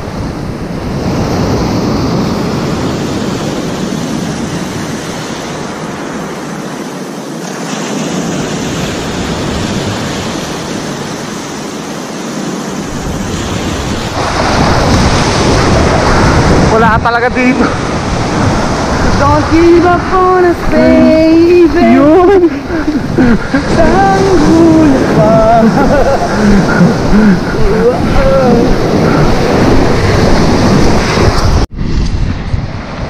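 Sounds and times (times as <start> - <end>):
surf breaking on shore: 0.0 - 33.0
wind buffeting microphone: 0.0 - 33.0.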